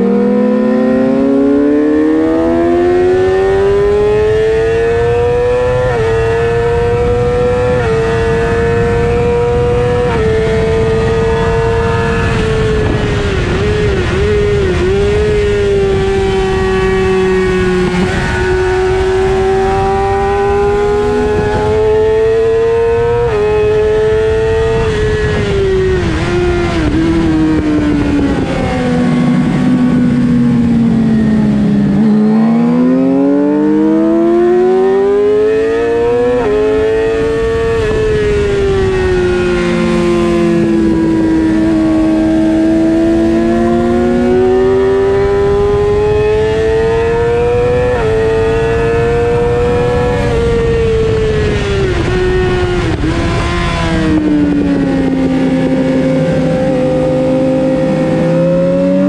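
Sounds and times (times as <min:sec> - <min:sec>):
motorcycle engine revving and shifting: 0:00.0 - 0:59.0
wind rush: 0:02.2 - 0:59.0.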